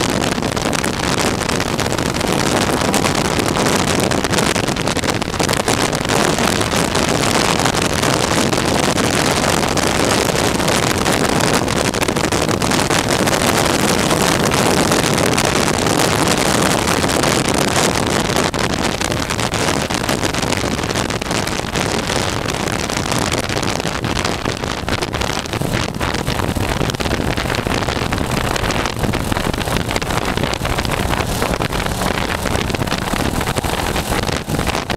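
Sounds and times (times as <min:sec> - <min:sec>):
motorcycle engine droning: 0:00.0 - 0:21.6, 0:24.0 - 0:34.9
wind rushing over microphone: 0:00.0 - 0:34.9.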